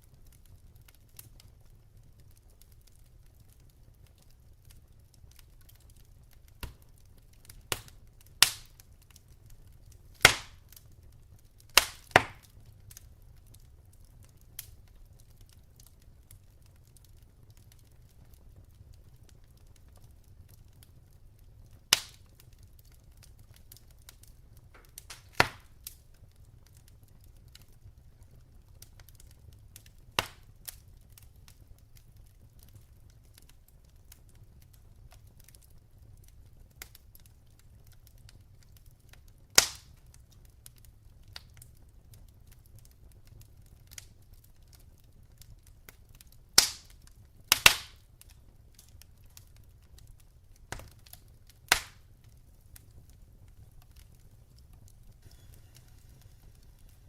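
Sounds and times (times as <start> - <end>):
logs crackling in fireplace: 0.0 - 57.0
sharp fire pops: 2.3 - 35.6, 36.8 - 40.8, 42.5 - 57.0.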